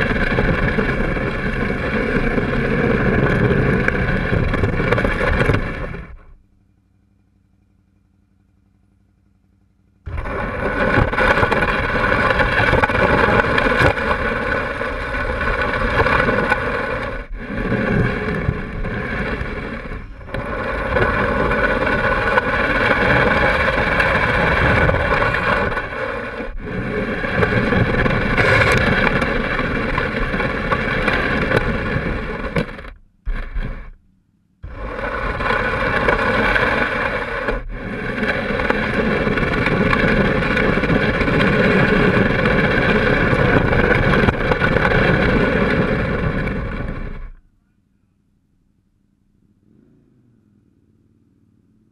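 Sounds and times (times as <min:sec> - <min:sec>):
wind noise on microphone: 0:00.0 - 0:06.4, 0:10.0 - 0:34.0, 0:34.6 - 0:47.4
motorcycle engine running: 0:00.0 - 0:51.9.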